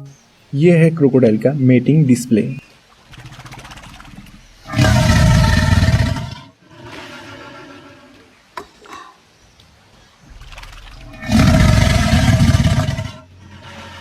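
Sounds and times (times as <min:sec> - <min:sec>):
crocodile bellowing: 0:00.0 - 0:09.0, 0:10.3 - 0:14.0.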